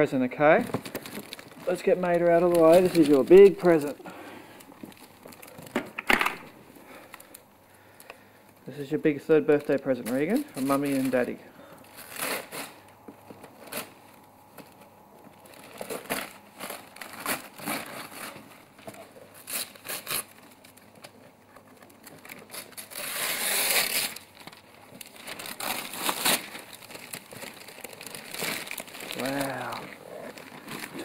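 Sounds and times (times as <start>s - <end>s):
wrapping paper tearing and crumpling: 0.0s - 5.8s, 8.7s - 31.0s.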